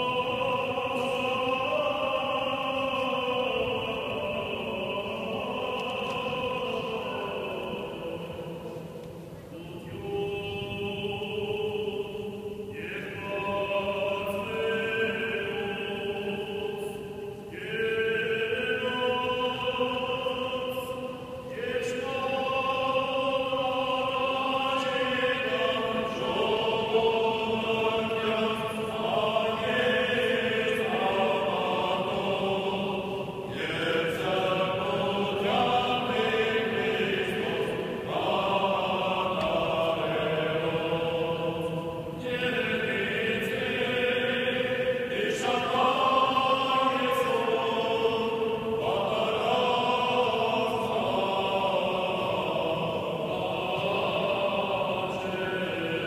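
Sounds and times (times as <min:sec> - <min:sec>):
choir singing slow chant: 0:00.0 - 0:56.0.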